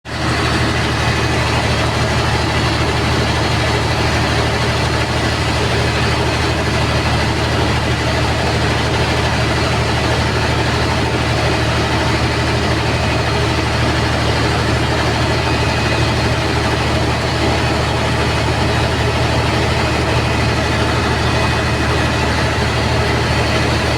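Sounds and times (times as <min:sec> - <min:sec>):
diesel generator droning: 0:00.1 - 0:23.9.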